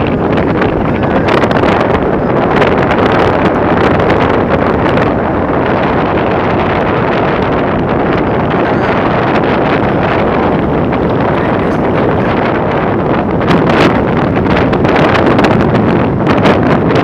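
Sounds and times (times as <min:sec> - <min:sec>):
heavy rain rushing: 0:00.0 - 0:15.9
wind buffeting microphone: 0:00.0 - 0:17.0.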